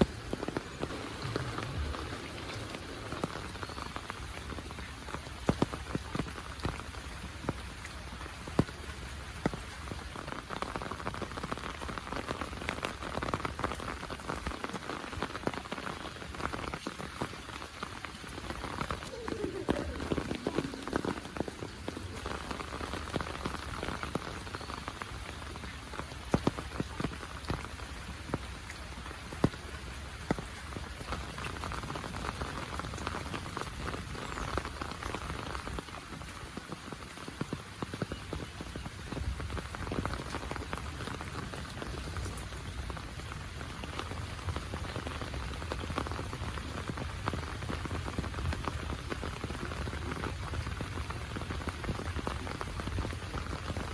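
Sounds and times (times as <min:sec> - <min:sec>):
heavy rain falling: 0:00.0 - 0:53.9
raindrops ticking close by: 0:00.0 - 0:53.9.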